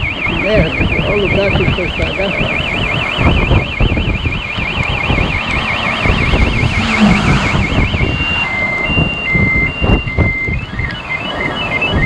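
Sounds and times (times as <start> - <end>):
car alarm siren: 0.0 - 12.0
car rumbling on road: 0.0 - 12.0.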